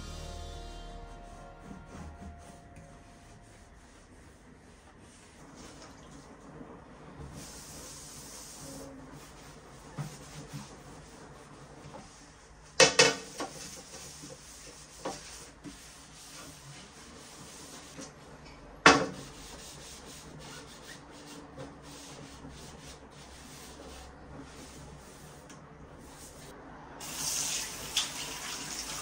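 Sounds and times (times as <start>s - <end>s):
sponge scrubbing a toilet: 1.0s - 18.4s, 19.0s - 29.0s.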